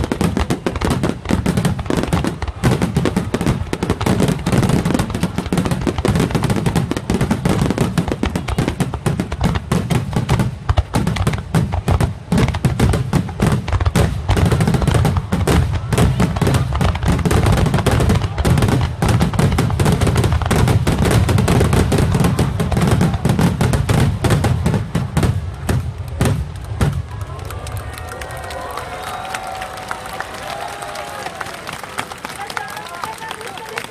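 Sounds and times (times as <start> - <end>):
fireworks booming and crackling: 0.0 - 27.8.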